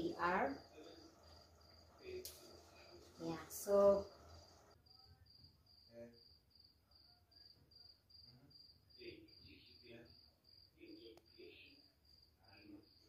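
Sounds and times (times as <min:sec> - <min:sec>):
cricket chirping: 0:00.0 - 0:13.0
faint muffled sounds: 0:00.0 - 0:13.0.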